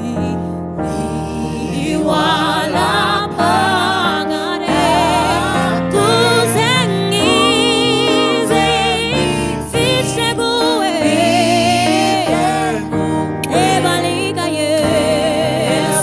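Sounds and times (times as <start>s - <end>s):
gospel singing with vibrato: 0.0s - 16.0s.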